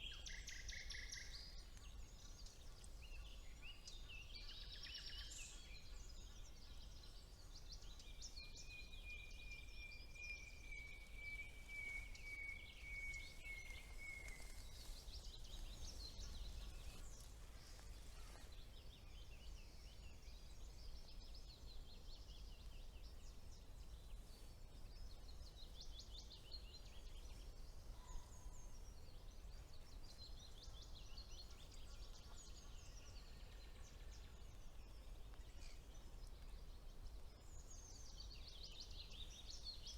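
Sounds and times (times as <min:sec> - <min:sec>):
chorus of songbirds singing: 0:00.0 - 0:39.9.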